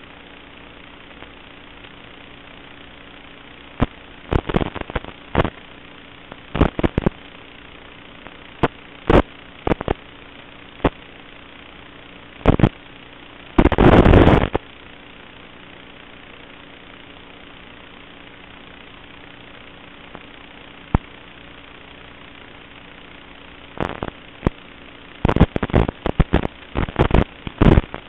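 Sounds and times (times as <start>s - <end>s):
static crackles: 0.0s - 28.0s
video link hiss and hum: 0.0s - 28.0s.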